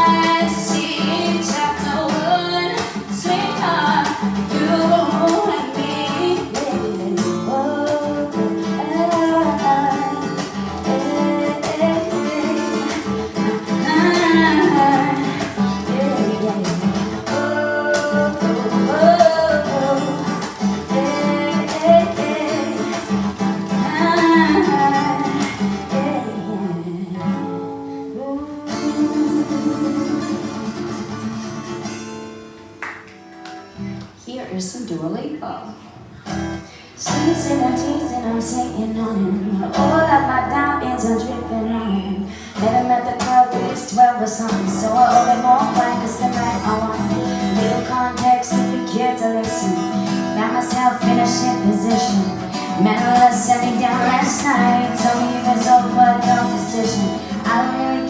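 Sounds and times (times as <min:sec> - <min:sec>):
person singing: 0:00.0 - 0:31.0, 0:36.6 - 0:58.0
acoustic guitar strumming: 0:00.0 - 0:35.0, 0:36.0 - 0:58.0.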